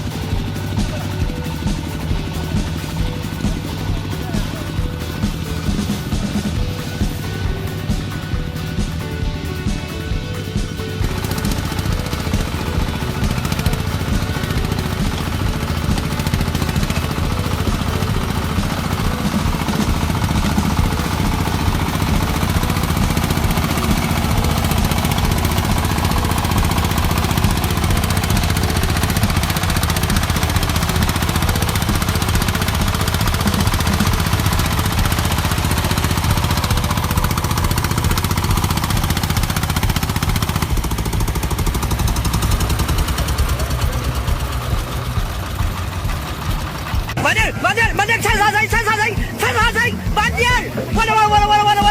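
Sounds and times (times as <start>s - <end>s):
farm vehicle engine chugging: 0.0s - 51.9s.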